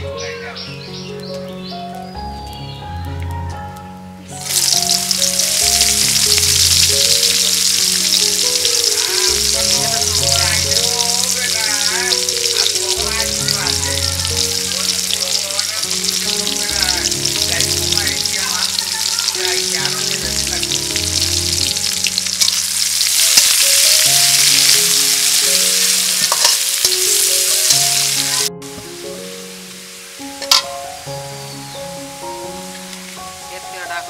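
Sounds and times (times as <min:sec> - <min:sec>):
onion and garlic sizzling in oil: 0:04.3 - 0:34.0.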